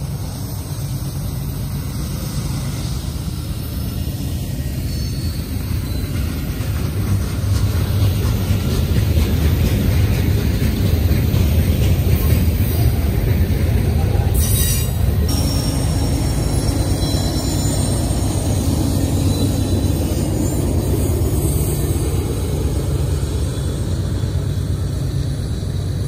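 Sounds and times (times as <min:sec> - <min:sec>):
diesel locomotive working hard: 0:00.0 - 0:26.0
freight train rumbling: 0:00.0 - 0:26.0
train wheels clattering on rails: 0:00.0 - 0:26.0.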